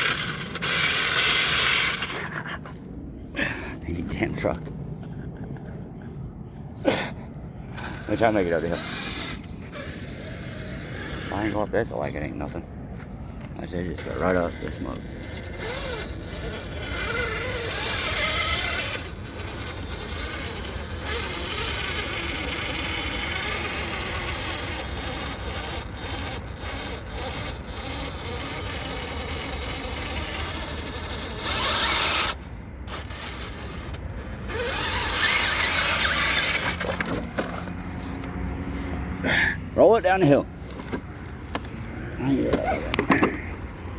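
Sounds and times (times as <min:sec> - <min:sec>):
electric motor whining: 0:00.0 - 0:02.9, 0:07.6 - 0:12.0, 0:12.9 - 0:43.9.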